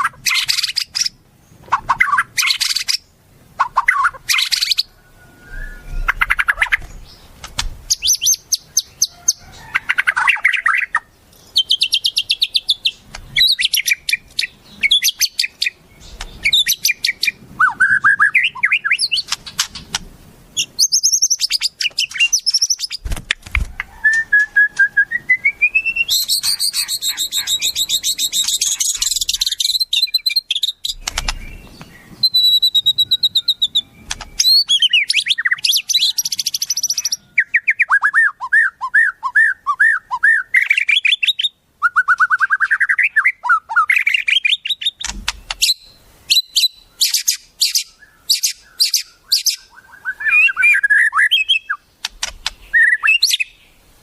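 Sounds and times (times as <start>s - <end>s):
songbirds singing and trilling: 0.0s - 54.0s.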